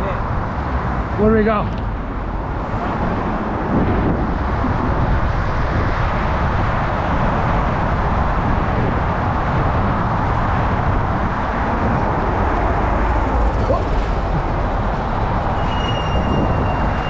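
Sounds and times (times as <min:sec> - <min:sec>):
road traffic: 0:00.0 - 0:17.0
wind on microphone: 0:02.2 - 0:17.0.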